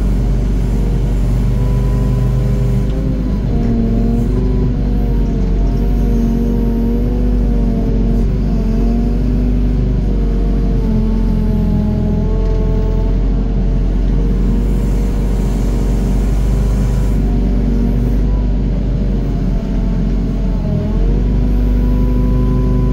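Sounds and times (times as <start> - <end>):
excavator diesel engine under load: 0.0 - 22.9
heavy low rumble: 0.0 - 22.9.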